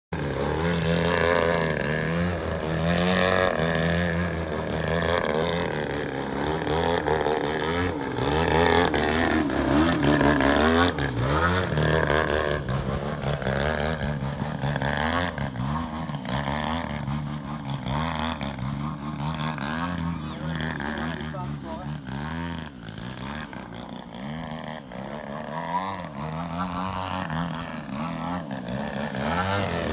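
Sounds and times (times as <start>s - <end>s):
model plane engine revving: 0.2s - 29.9s.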